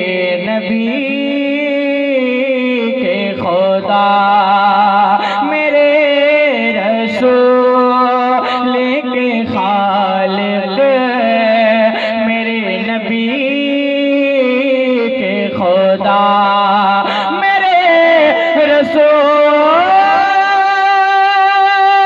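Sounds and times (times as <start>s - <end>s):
man singing melismatic notes: 0.0s - 22.0s.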